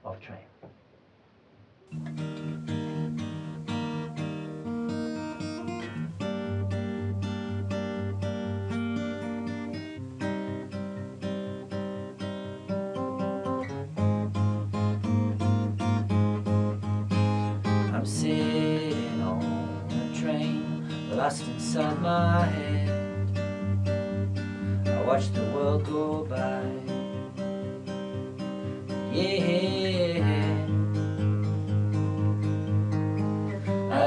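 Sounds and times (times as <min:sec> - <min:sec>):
acoustic guitar strumming chords: 0:01.9 - 0:34.0.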